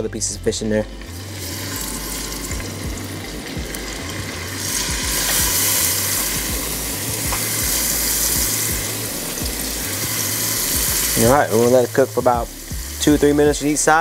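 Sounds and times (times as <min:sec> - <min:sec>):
fish sizzling in frying pan: 0:01.0 - 0:14.0.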